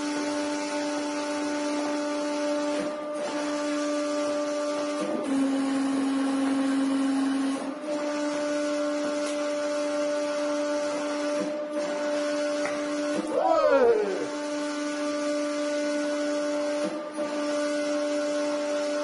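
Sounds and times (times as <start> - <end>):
hydraulic pump motor hum and hiss: 0.0 - 19.0.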